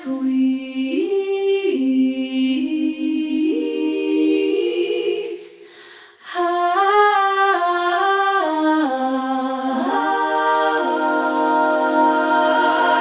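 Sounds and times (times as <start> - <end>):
wordless vocal melody: 0.0 - 13.0.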